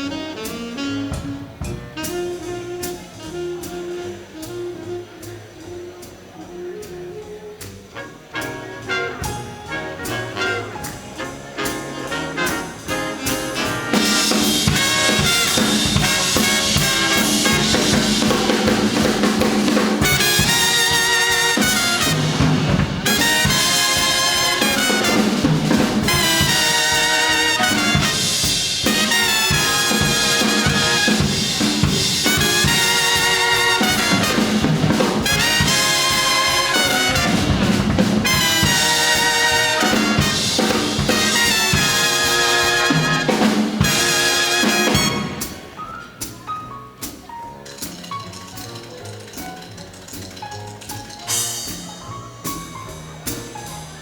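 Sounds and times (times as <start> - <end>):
brass hits: 0.0 - 4.9, 8.0 - 46.4
big band playing swing: 0.0 - 54.0
drum kit: 0.0 - 54.0.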